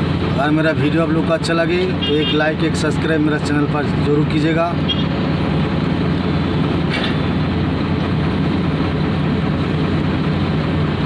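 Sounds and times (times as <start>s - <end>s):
excavator engine droning: 0.0s - 11.0s
tipper truck engine running: 0.0s - 11.0s.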